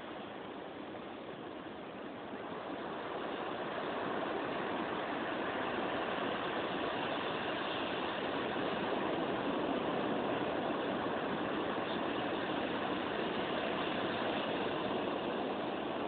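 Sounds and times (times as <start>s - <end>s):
surf crashing waves: 2.3s - 16.0s.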